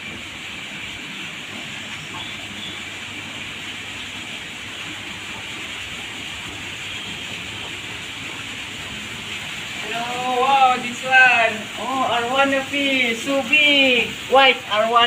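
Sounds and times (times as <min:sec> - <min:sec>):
steady hissing ambient noise: 0:00.0 - 0:15.0.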